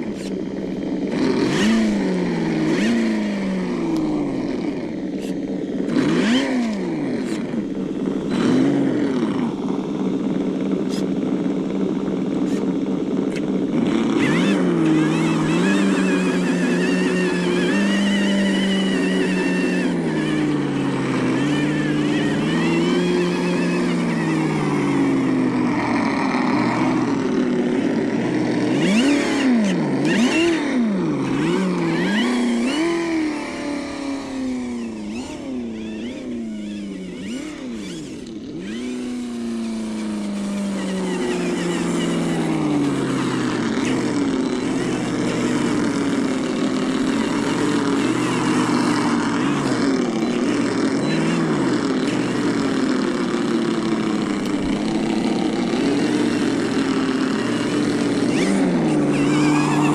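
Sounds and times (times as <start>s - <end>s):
simulated engine revving: 0.0s - 59.9s.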